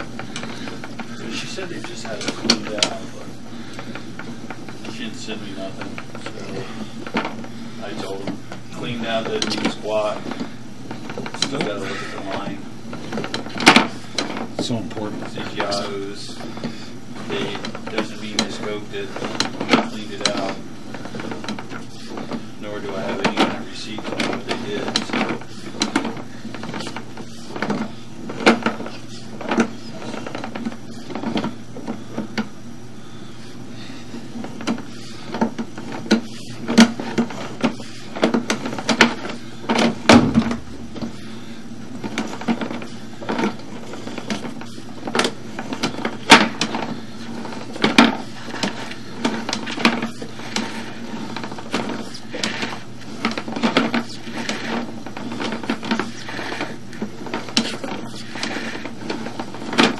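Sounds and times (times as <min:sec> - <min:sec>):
cable clicks and knocks: 0:00.0 - 0:32.6, 0:34.4 - 0:59.9
low steady hum: 0:00.0 - 0:59.9.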